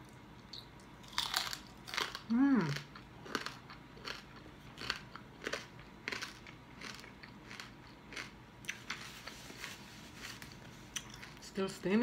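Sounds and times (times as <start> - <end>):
chewing crunchy food: 0.0 - 11.4.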